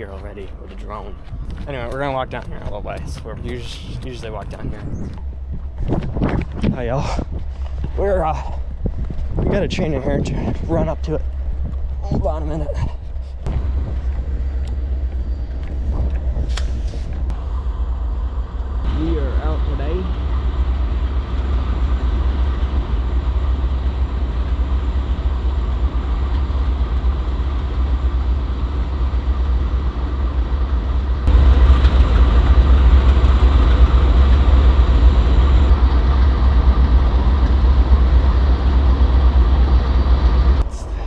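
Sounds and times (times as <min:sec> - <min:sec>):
diesel locomotive engine rumbling: 0:00.0 - 0:41.0.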